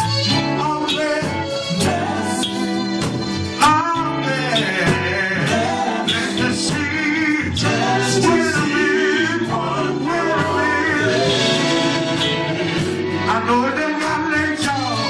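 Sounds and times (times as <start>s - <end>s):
man singing: 0.0s - 3.0s, 3.6s - 15.0s
band playing: 0.0s - 15.0s.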